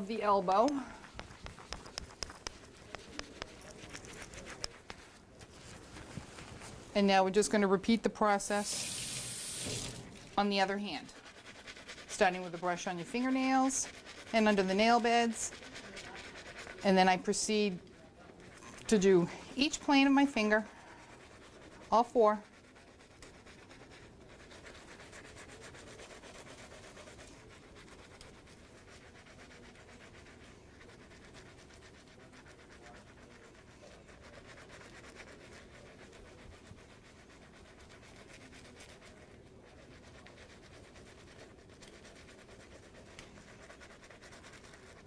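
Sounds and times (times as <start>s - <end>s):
scrub brush rubbing fingers: 0.0s - 45.0s.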